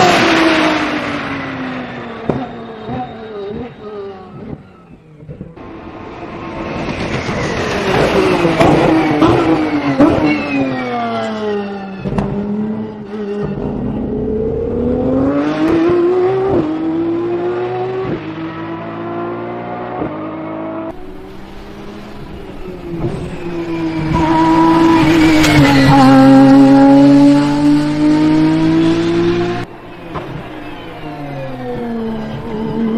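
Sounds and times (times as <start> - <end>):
racing car engine revving: 0.0 - 32.9.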